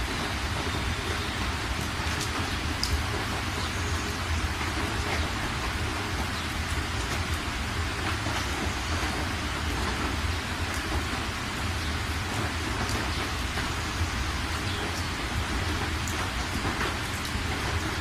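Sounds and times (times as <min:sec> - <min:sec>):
heavy rain on car windscreen: 0:00.0 - 0:18.0.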